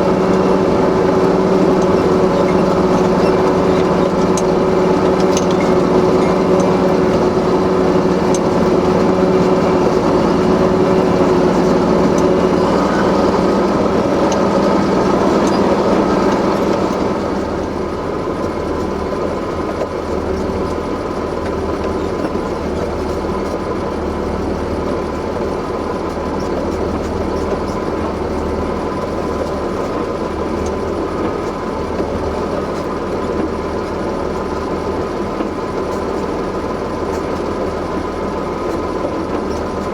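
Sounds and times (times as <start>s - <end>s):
heavy vehicle engines idling: 0.0s - 39.9s.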